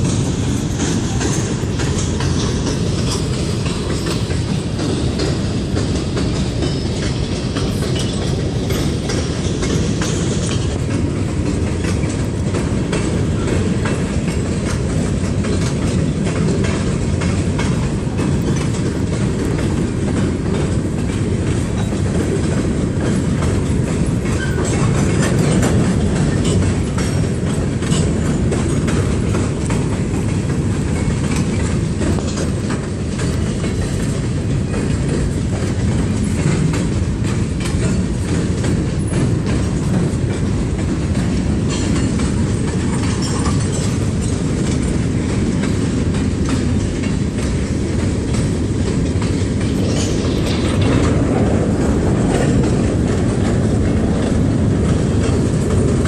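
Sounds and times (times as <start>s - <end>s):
freight train rumble: 0.0s - 56.0s
wheels clacking over rail joints: 0.0s - 56.0s.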